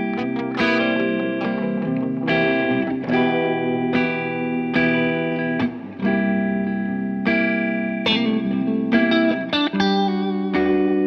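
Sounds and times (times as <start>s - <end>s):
electric guitar chords and notes: 0.0s - 11.0s.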